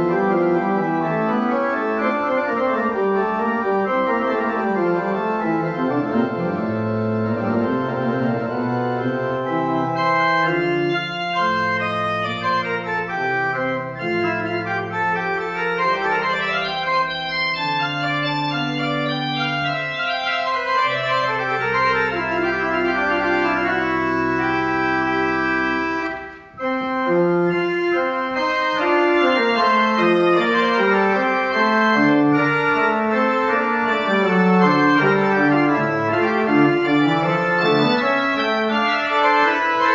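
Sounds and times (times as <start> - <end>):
pipe organ playing: 0.0 - 39.9.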